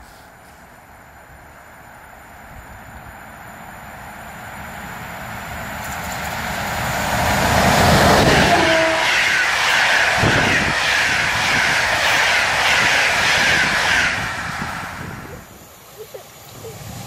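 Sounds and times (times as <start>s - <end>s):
train rumble: 0.0s - 17.0s
rhythmic wheel clatter on rails: 2.6s - 17.0s.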